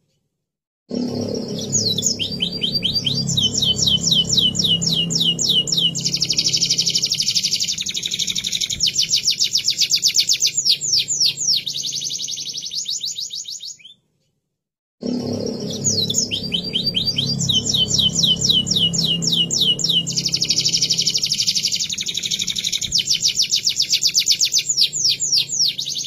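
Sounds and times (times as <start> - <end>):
canary singing trills: 1.1 - 14.0, 15.2 - 26.0.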